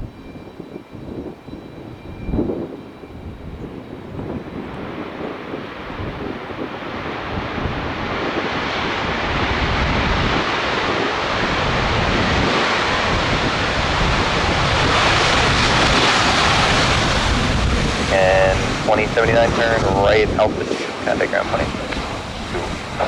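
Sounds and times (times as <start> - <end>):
airliner engines roaring: 0.0 - 23.0.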